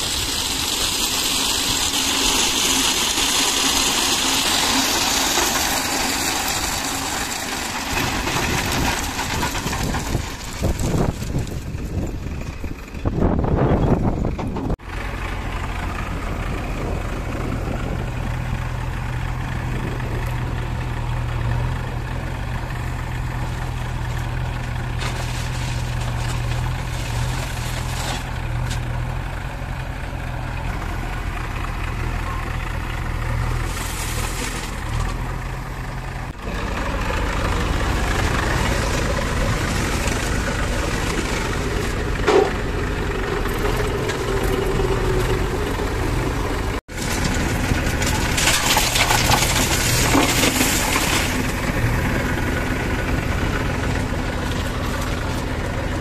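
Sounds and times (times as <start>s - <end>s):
diesel engine idling: 0.0s - 56.0s
tractor engine running: 0.0s - 56.0s.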